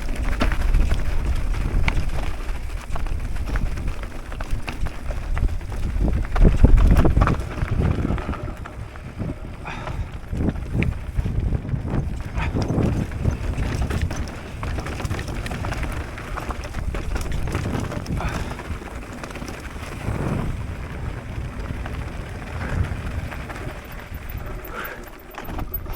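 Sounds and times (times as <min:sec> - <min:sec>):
bike rattling over bumps: 0:00.0 - 0:25.9
wind rumbling on microphone: 0:00.0 - 0:25.9.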